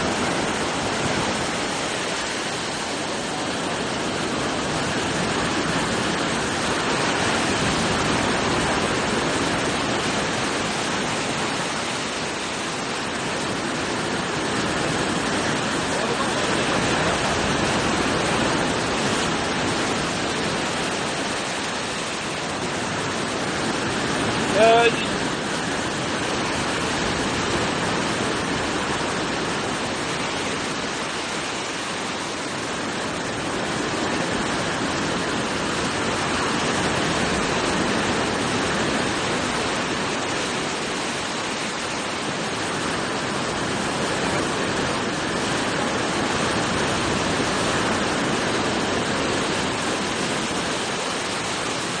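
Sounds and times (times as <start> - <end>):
floodwater rushing: 0.0 - 52.0.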